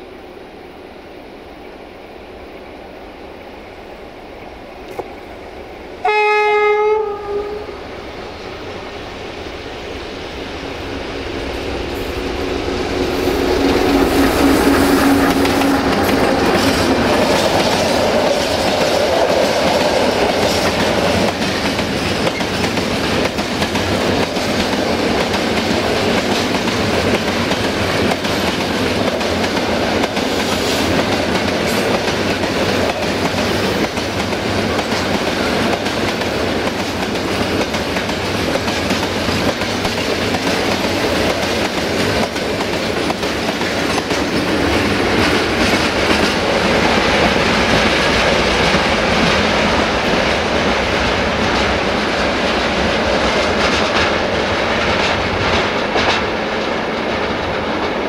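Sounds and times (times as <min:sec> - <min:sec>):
train wheels rumbling on rails: 0:03.4 - 0:58.0.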